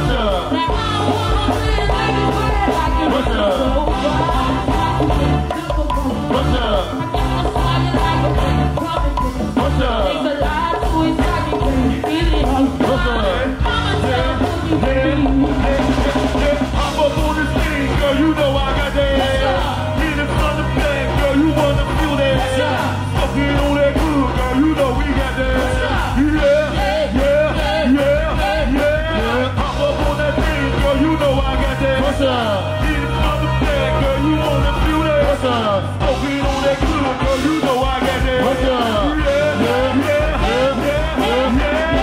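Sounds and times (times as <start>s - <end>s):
bass: 0.0s - 42.0s
live band playing: 0.0s - 42.0s
person singing: 0.0s - 42.0s.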